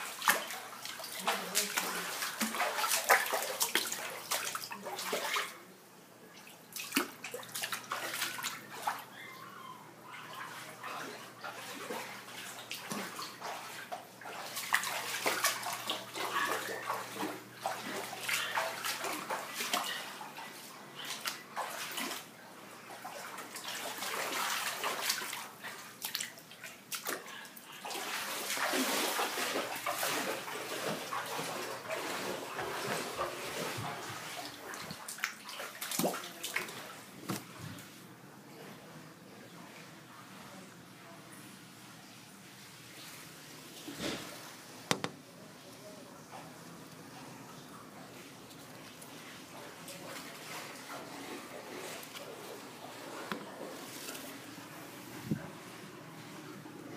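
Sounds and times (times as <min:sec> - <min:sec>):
water sloshing and splashing: 0:00.0 - 0:05.7, 0:06.3 - 0:09.3, 0:10.0 - 0:38.8, 0:42.0 - 0:56.9.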